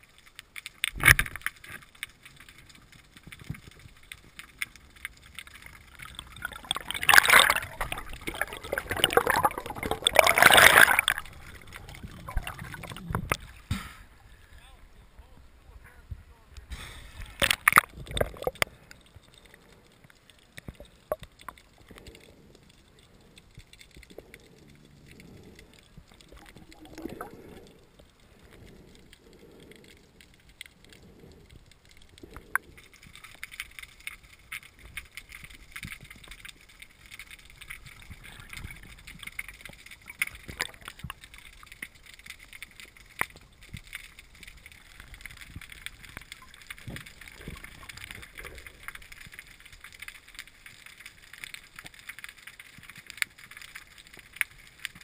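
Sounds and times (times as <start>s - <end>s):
crackle of small clicks: 0.0s - 55.0s
muffled underwater water movement: 0.0s - 55.0s.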